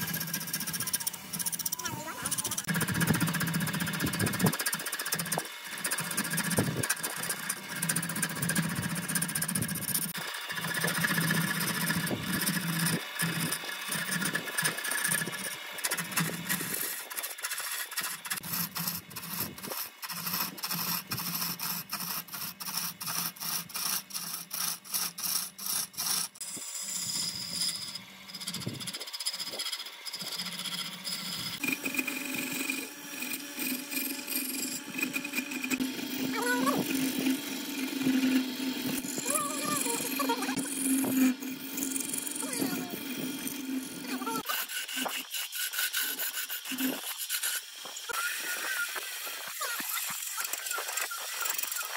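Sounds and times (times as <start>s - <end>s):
wood lathe humming: 0.0s - 51.8s
turning tool scraping wood: 0.0s - 51.9s.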